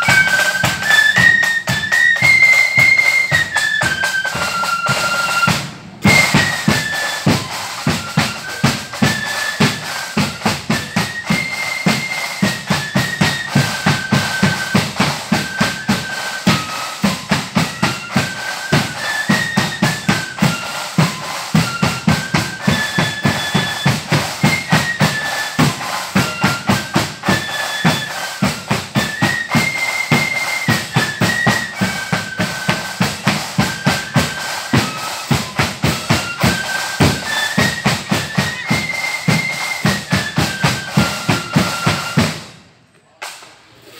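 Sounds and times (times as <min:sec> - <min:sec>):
flutes playing a melody: 0:00.0 - 0:42.6
steady drumbeat: 0:00.0 - 0:43.9.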